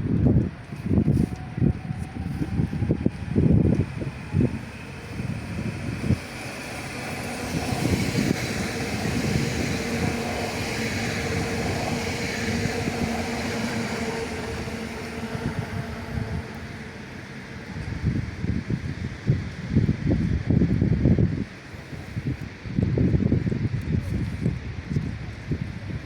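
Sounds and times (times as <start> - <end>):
passenger train running past: 0.0 - 26.0
wind buffeting microphone: 0.0 - 26.0.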